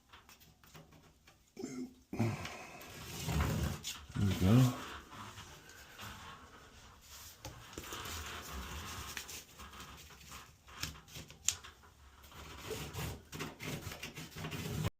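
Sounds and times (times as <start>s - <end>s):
light scraping and handling: 2.8s - 14.9s.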